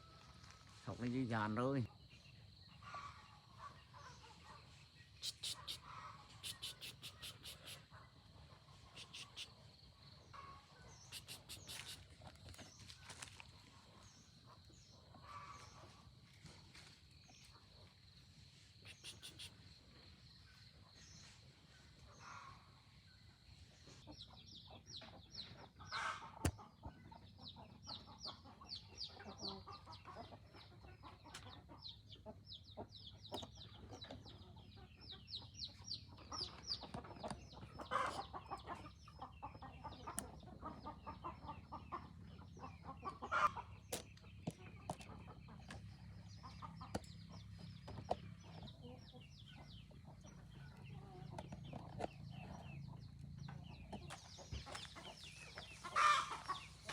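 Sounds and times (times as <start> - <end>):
chickens clucking and calling: 0.0 - 56.9.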